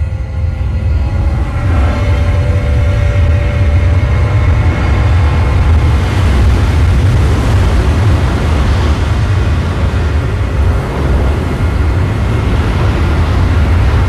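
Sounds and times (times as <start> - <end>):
deep heavy rumble: 0.0 - 14.0
held music tones: 0.0 - 14.0
rushing roar: 0.0 - 14.0.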